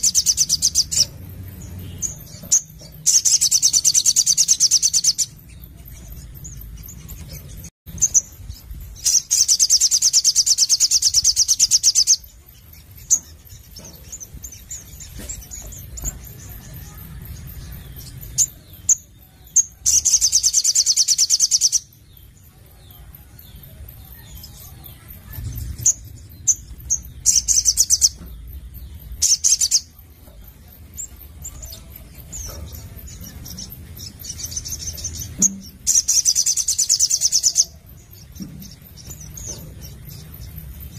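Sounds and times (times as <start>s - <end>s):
soft bird chirps: 0.0s - 40.9s.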